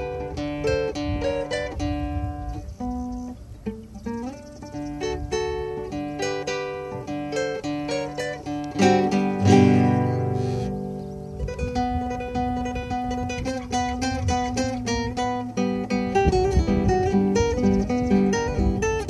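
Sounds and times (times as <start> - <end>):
acoustic guitar playing: 0.0 - 19.0.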